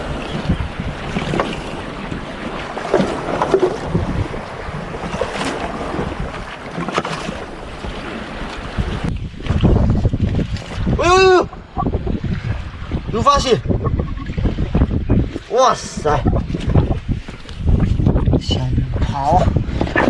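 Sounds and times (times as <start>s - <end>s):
sea washing: 0.0s - 20.0s
wind buffeting microphone: 0.0s - 20.0s.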